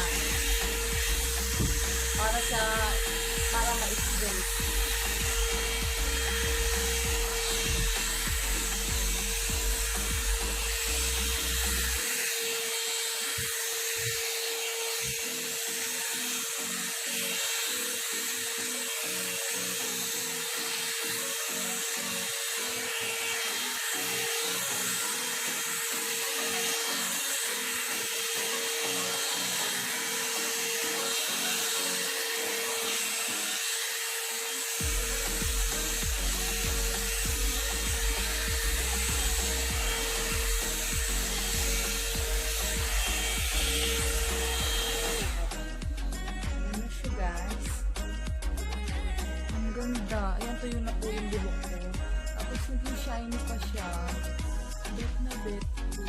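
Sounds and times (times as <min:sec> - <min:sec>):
hair dryer motor whine: 0:00.0 - 0:56.0.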